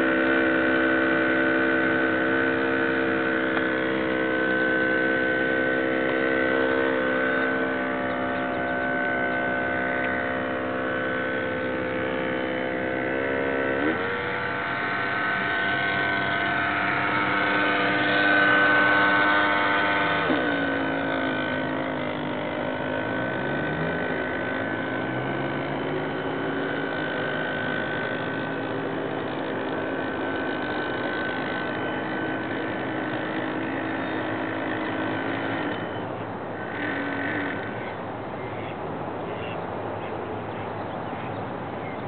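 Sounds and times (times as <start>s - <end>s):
model boat motor whine: 0.0s - 42.0s.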